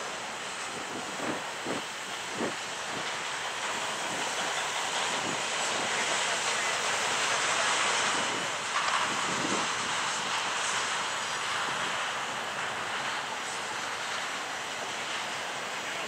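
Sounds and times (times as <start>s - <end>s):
freight train rolling on rails: 0.0s - 16.0s.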